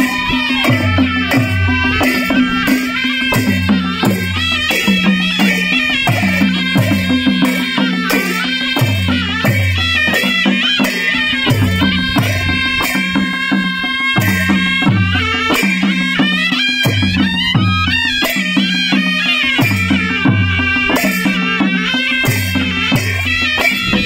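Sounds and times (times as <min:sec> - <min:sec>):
reedy shawm melody: 0:00.0 - 0:24.0.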